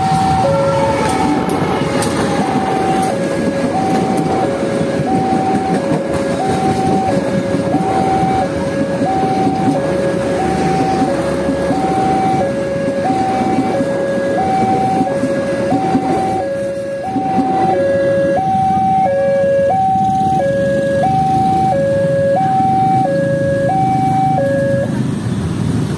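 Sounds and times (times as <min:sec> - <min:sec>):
train wheels rumbling on rail: 0:00.0 - 0:23.5
two-tone electronic warning signal: 0:00.0 - 0:24.9.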